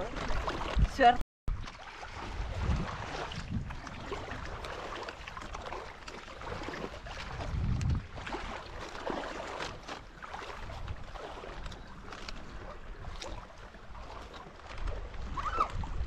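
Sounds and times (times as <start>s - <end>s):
sea water lapping and splashing: 0.0s - 16.0s
wind buffeting microphone: 0.0s - 16.0s.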